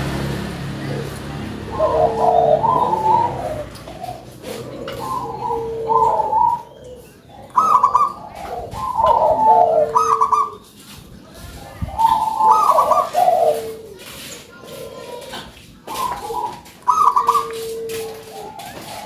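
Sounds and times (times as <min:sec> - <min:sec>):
dove cooing: 0:00.0 - 0:10.8, 0:11.5 - 0:19.0.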